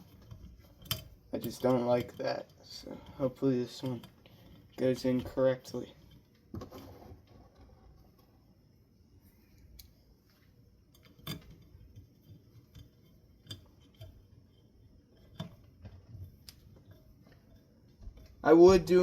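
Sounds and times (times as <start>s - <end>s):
small hard parts clicking: 0.0s - 8.2s, 9.5s - 19.0s.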